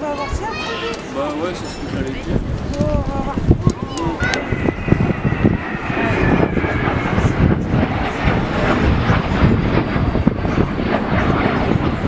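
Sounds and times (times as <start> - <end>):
aircraft engine: 0.0 - 12.0.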